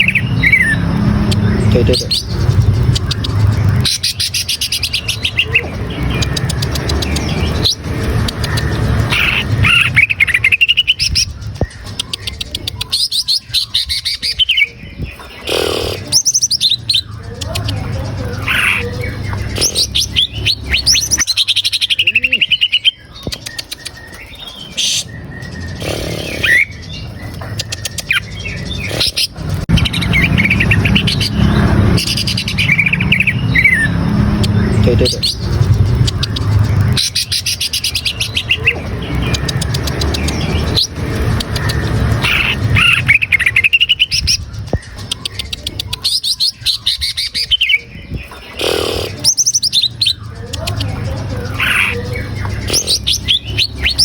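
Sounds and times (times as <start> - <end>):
bird song whistles and trills: 0.0 - 54.0.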